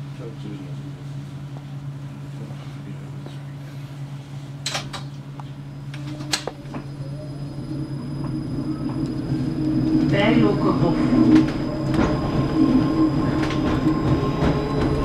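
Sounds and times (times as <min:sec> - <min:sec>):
electric tram humming: 0:00.0 - 0:15.0.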